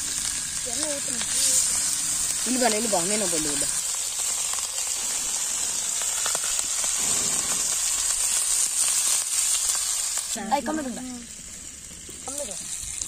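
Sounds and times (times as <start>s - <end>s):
faint crackles: 0.0s - 13.0s
fish sizzling in oil: 0.0s - 13.0s.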